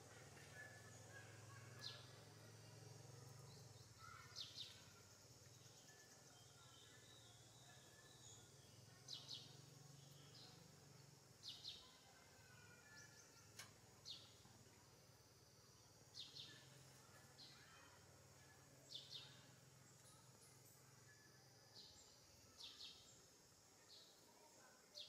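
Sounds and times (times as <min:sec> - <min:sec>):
low outdoor background: 0:00.0 - 0:25.0.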